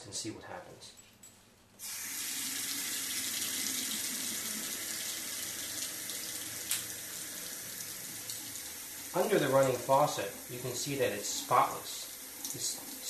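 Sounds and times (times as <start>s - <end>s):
faucet splashing on metal sink: 1.8s - 13.0s.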